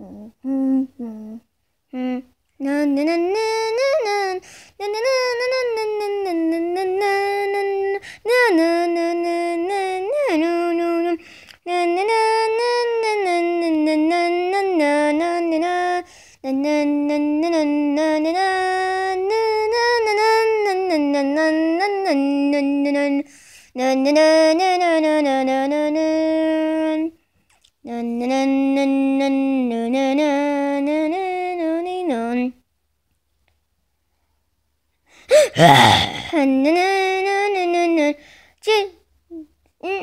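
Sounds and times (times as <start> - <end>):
person singing wordless tune: 0.0 - 27.2, 27.8 - 32.6, 35.1 - 40.0.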